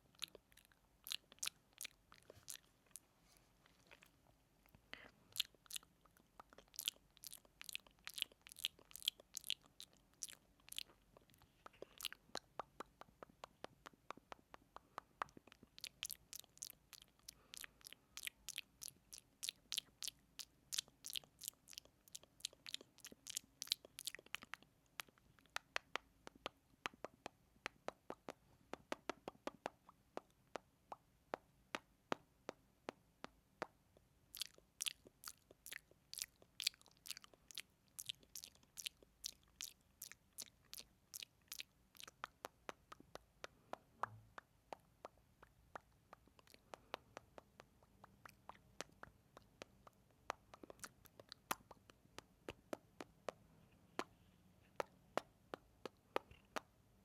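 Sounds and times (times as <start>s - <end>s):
wet lip smacks: 0.1s - 3.0s, 3.6s - 31.9s, 34.3s - 53.4s
mouth clicks: 3.8s - 56.8s.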